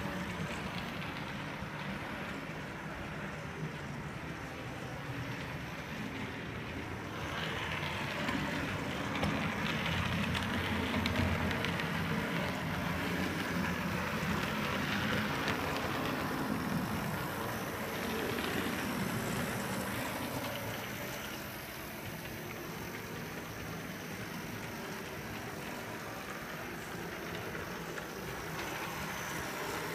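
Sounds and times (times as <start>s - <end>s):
model train motor whirring: 0.0s - 29.9s.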